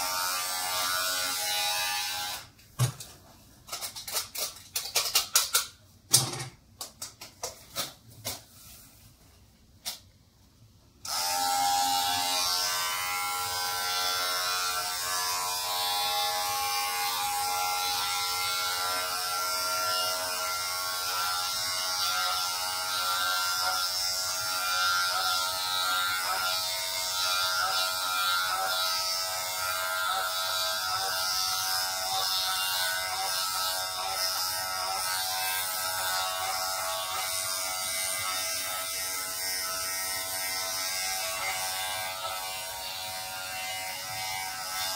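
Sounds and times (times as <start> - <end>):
electric hair clipper buzzing: 0.0 - 2.5, 11.0 - 44.9.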